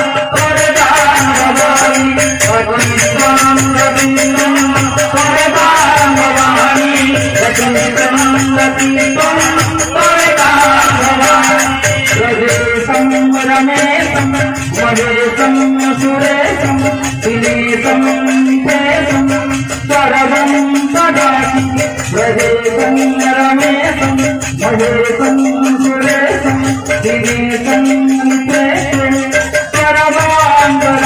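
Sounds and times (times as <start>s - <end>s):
man singing into microphone: 0.0s - 31.0s
music with ticking percussion: 0.0s - 31.0s.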